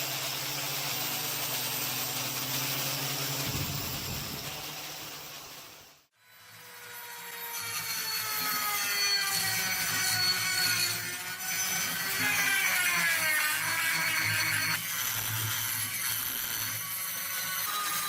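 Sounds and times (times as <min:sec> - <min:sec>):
power tool motor whine: 0:00.0 - 0:18.0
rasping cut: 0:00.0 - 0:18.0.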